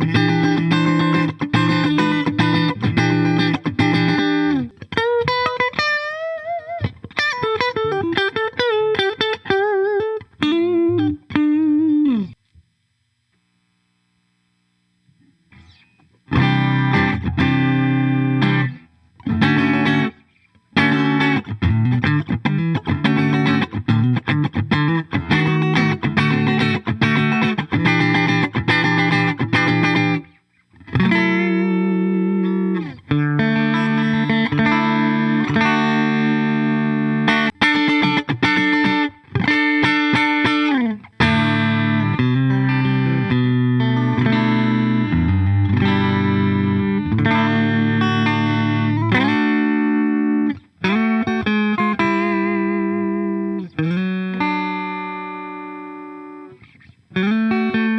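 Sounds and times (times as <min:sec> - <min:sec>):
electric guitar chords and notes: 0:00.0 - 0:12.4, 0:15.0 - 0:57.9.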